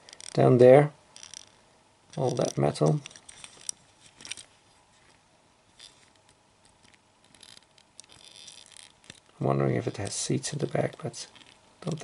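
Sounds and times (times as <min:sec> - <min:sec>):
fingers handling metal toy: 0:00.0 - 0:00.4, 0:01.2 - 0:05.2, 0:05.8 - 0:09.3, 0:09.9 - 0:12.0.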